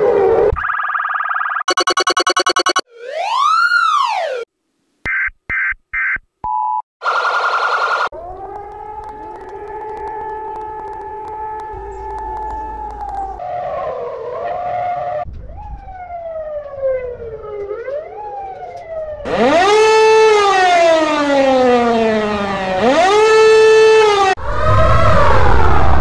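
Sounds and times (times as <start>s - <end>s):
loud siren with falling sweeps: 0.0s - 4.5s, 7.0s - 26.0s
sped-up emergency sirens: 0.0s - 4.5s, 7.0s - 26.0s.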